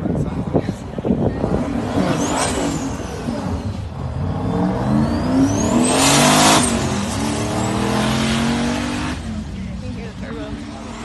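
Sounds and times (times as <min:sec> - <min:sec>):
car engine accelerating: 0:01.1 - 0:11.0.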